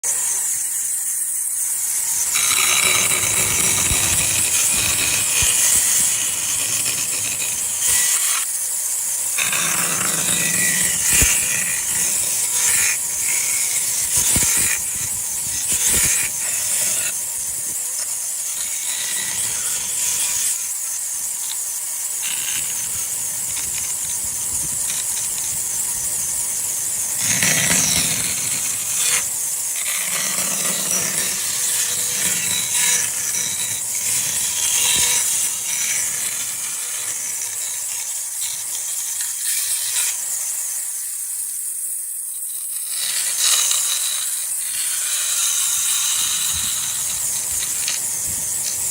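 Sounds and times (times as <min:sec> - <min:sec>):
power tool cutting wood: 0:00.0 - 0:48.9.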